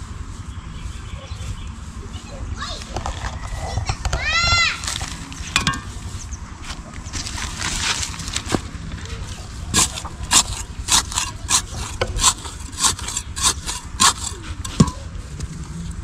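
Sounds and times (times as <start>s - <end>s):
hand tool scraping dry soil: 0.0s - 16.0s.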